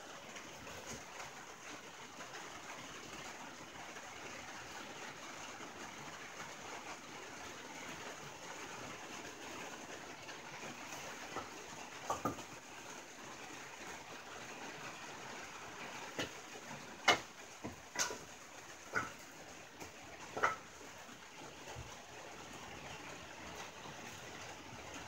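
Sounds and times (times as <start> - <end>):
rain hissing on a tin roof: 0.0 - 25.0.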